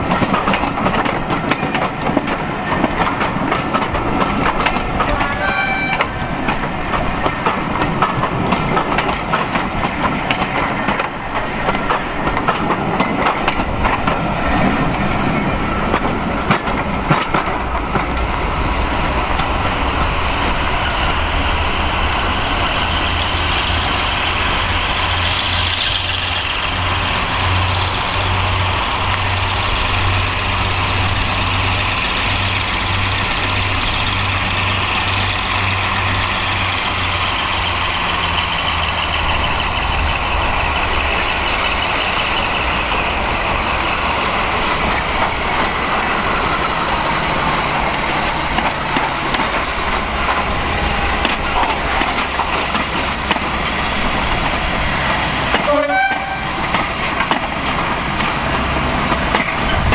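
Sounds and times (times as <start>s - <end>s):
diesel locomotive engine droning: 0.0s - 59.9s
train wheels clicking over rail joints: 0.0s - 59.9s.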